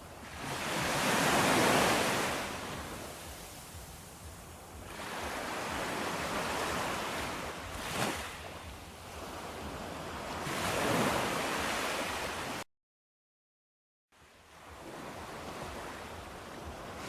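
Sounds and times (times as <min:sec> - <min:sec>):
waves breaking: 0:00.0 - 0:12.6, 0:14.4 - 0:17.0.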